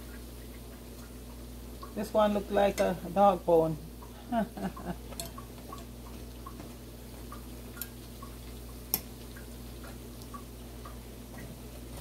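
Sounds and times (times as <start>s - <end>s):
dough frying in oil: 0.0s - 12.0s
low steady hum: 0.0s - 12.0s.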